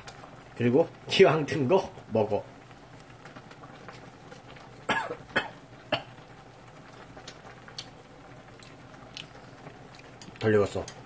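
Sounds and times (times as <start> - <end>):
pots boiling: 0.0 - 11.0.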